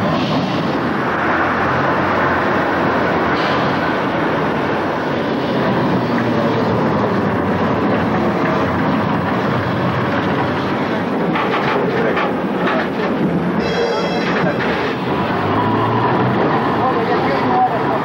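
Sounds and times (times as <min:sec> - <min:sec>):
clattering clicks of tram wheels: 0:00.0 - 0:18.0
tram rumbling on rails: 0:00.0 - 0:18.0.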